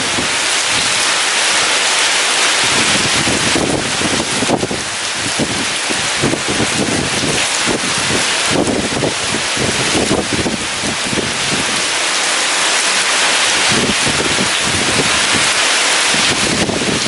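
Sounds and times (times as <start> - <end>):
heavy rain pouring: 0.0 - 17.0
strong wind gusting: 0.0 - 17.0.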